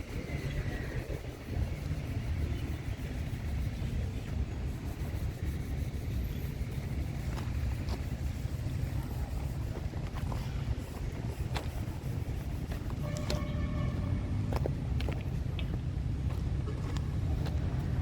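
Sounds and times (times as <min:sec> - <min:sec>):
street low rumble: 0:00.0 - 0:18.0.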